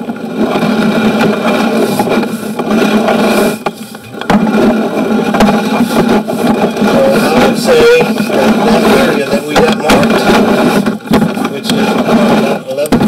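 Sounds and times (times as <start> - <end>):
cable scraping and rattling in drain: 0.0 - 13.0
steady hum: 0.0 - 13.0.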